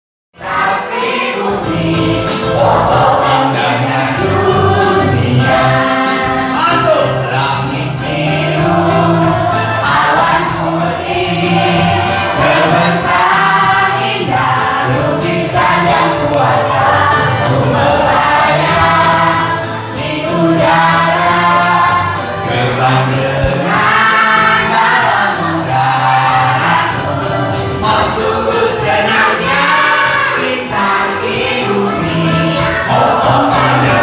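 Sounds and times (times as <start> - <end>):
song with instrumental accompaniment: 0.4 - 34.0.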